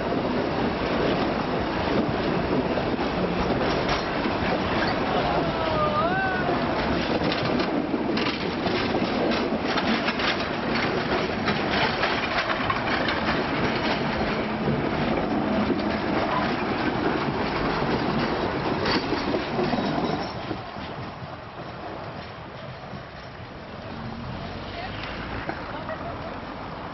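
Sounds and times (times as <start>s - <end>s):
train wheels clattering over rails: 0.0s - 26.2s.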